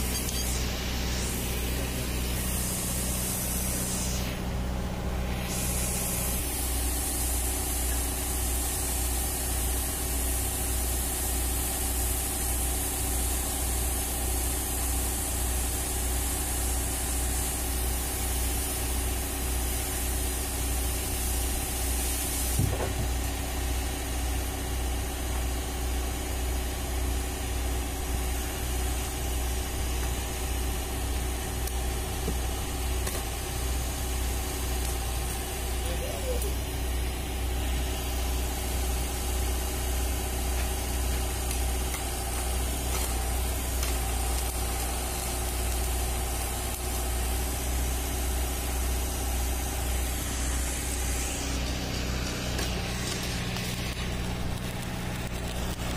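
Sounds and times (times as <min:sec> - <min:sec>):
engine idling: 0:00.0 - 0:55.9
welding arc hiss: 0:00.0 - 0:55.9.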